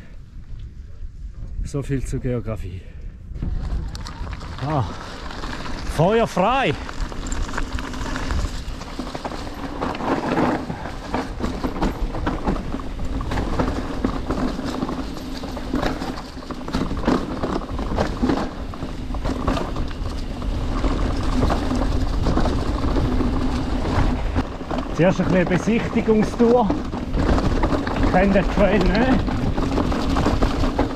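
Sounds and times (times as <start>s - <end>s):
low rumble: 0.0s - 30.9s
mountain bike rattling: 3.3s - 30.9s.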